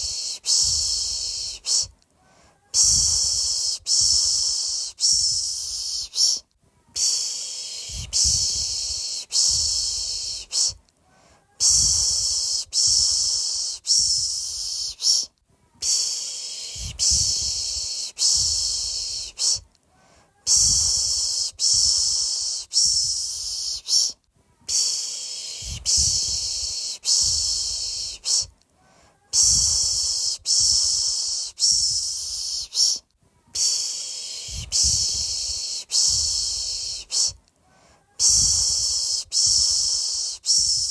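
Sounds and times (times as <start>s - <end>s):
person shushing a baby: 0.0s - 40.9s.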